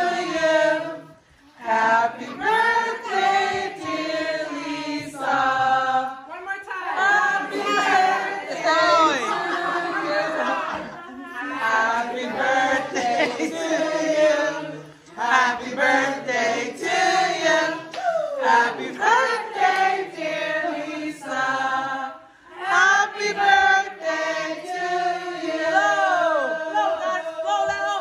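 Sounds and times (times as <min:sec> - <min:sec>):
group of people singing: 0:00.0 - 0:28.0.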